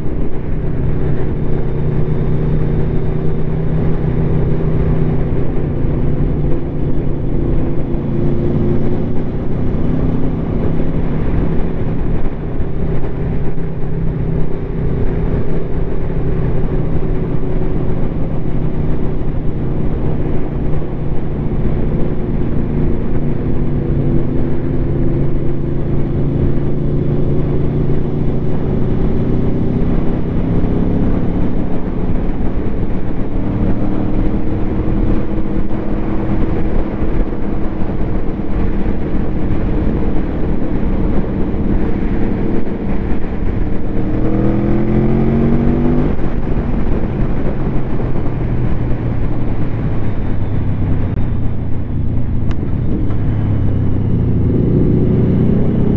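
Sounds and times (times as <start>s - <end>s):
motorcycle engine cruising: 0.0s - 55.9s
wind noise on microphone: 0.0s - 55.9s.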